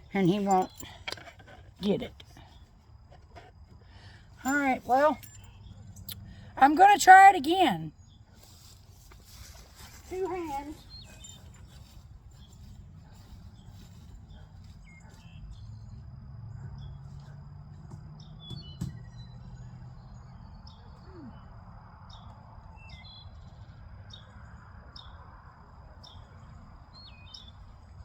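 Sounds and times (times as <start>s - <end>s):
small birds chirping: 0.0s - 16.0s, 16.6s - 24.3s, 26.0s - 28.0s.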